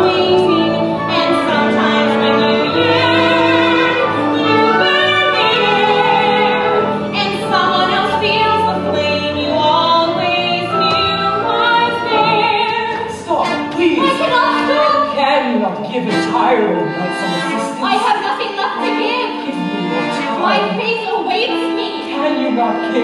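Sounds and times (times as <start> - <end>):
operatic singing: 0.0 - 23.0
orchestral accompaniment: 0.0 - 23.0.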